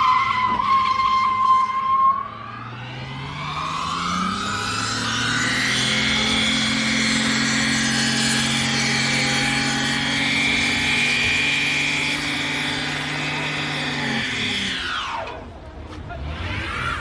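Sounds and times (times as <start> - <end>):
car engine revving high: 0.0 - 15.4, 16.1 - 17.0.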